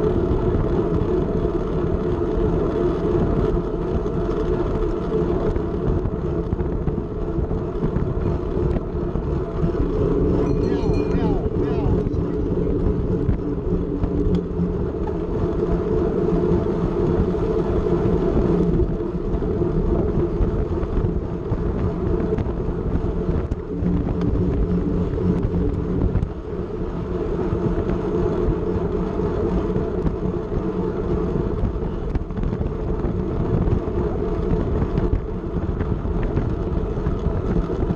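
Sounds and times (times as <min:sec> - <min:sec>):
bicycle tyre noise on concrete: 0:00.0 - 0:37.9
wind rush: 0:00.0 - 0:37.9.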